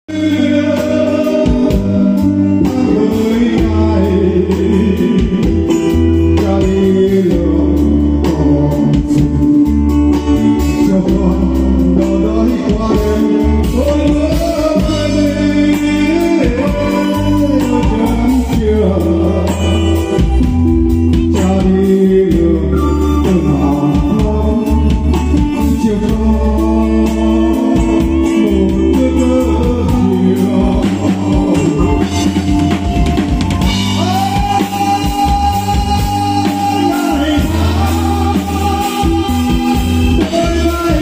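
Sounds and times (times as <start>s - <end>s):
bass line: 0.0s - 41.0s
drum kit: 0.0s - 41.0s
man singing into microphone: 0.0s - 41.0s
electronic keyboard: 0.1s - 41.0s.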